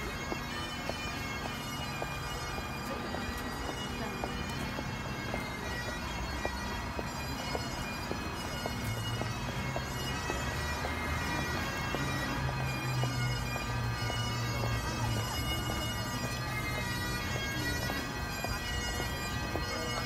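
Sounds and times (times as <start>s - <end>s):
bagpipes playing: 0.0s - 20.0s.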